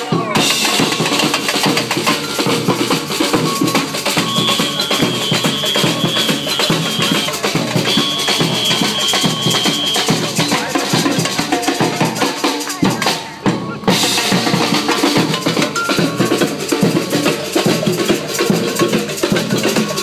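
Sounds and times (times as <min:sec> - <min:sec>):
samba percussion band: 0:00.0 - 0:20.0.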